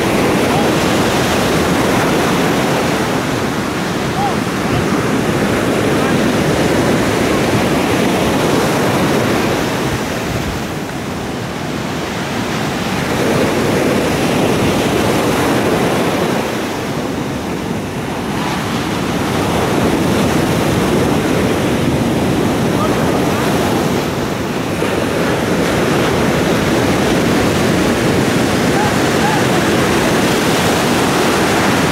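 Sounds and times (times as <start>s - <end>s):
surf washing on beach: 0.0s - 31.9s
wind buffeting microphone: 0.0s - 31.9s.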